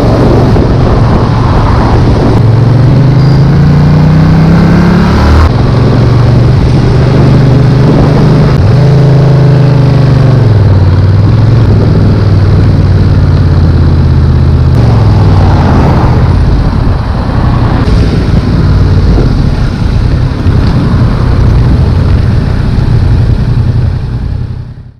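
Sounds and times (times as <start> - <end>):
heavy rush of noise: 0.0 - 24.9
motorcycle engine running loud: 0.0 - 24.9.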